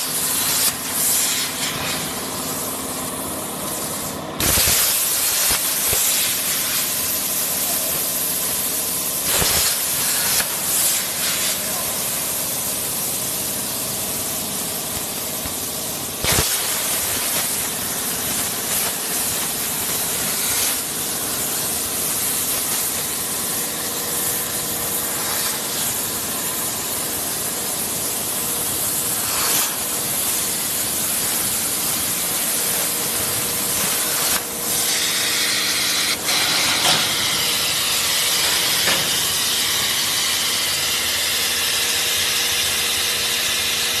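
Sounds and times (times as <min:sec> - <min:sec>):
plasma torch hissing: 0:00.0 - 0:44.0.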